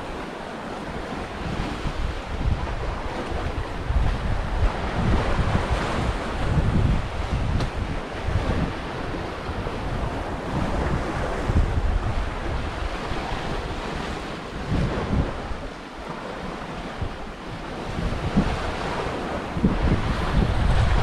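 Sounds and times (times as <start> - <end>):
surf on rocky shore: 0.0 - 21.0
wind buffeting microphone: 0.0 - 21.0.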